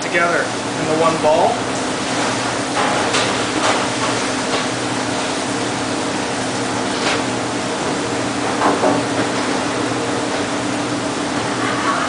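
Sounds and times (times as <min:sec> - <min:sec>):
fan-like machine humming: 0:00.0 - 0:12.0.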